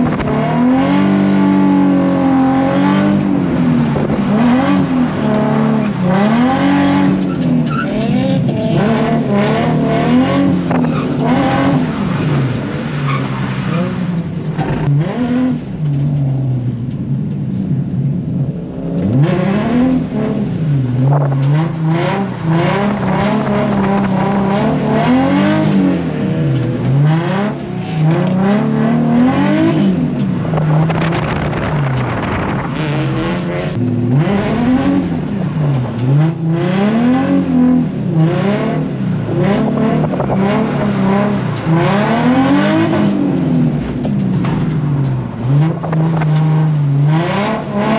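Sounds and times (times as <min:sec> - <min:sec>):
car engine revving: 0:00.0 - 0:47.9
road and tyre noise: 0:00.0 - 0:47.9.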